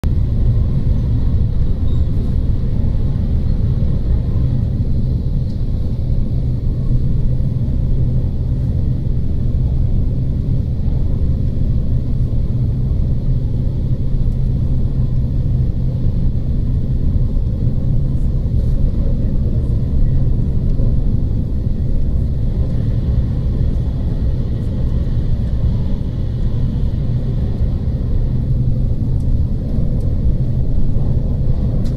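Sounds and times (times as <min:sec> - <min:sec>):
train cabin low rumble: 0:00.0 - 0:31.9.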